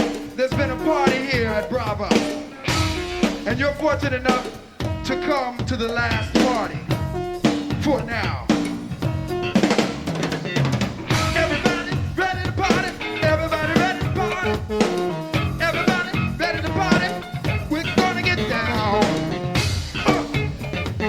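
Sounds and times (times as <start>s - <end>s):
drum rimshots: 0.0s - 21.0s
jazz-funk band playing: 0.0s - 21.0s.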